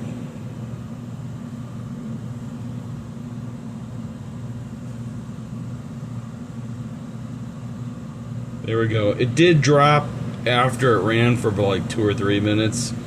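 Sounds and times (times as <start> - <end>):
furnace blower humming: 0.0 - 13.0.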